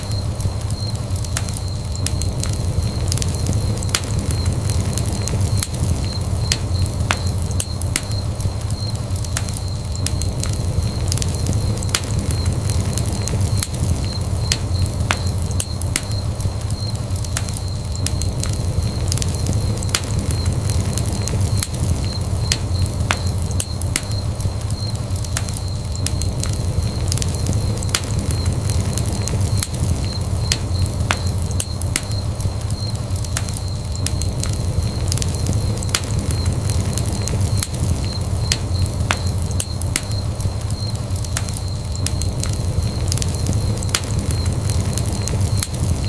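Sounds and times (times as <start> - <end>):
burning wood crackling: 0.0 - 46.0
fire flames rumbling: 0.0 - 46.0.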